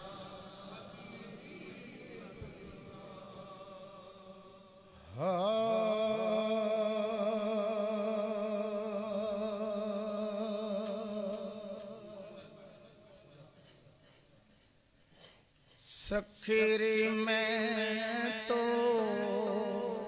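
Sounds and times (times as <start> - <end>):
man singing with vibrato: 0.0 - 13.6, 15.8 - 20.0.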